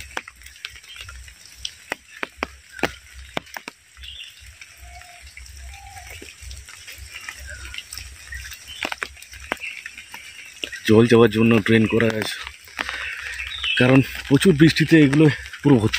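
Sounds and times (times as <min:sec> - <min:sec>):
heavy raindrops striking: 0:00.0 - 0:15.9
rain hissing: 0:00.0 - 0:15.9.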